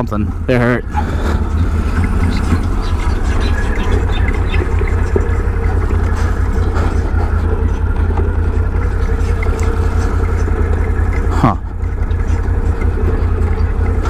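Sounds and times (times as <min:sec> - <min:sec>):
atv engine rumbling: 0:00.0 - 0:14.0.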